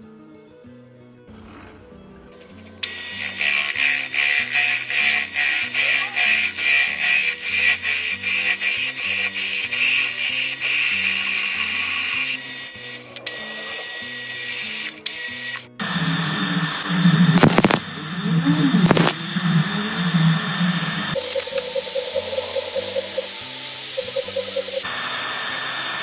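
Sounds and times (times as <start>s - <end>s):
sharp scraping strokes: 1.3s - 24.9s
metal lathe running and cutting: 1.3s - 26.0s.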